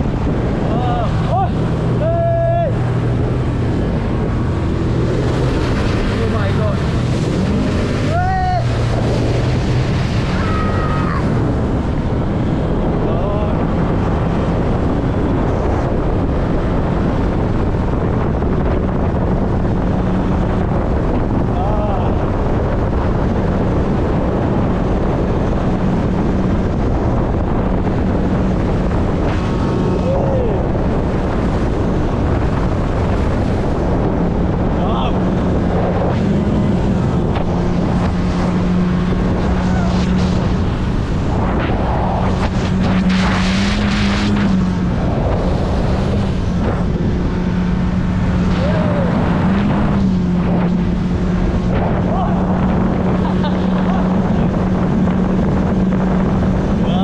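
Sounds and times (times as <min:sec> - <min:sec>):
rushing water: 0:00.0 - 0:57.0
speedboat engine drone: 0:00.0 - 0:57.0
wind buffeting microphone: 0:00.0 - 0:57.0.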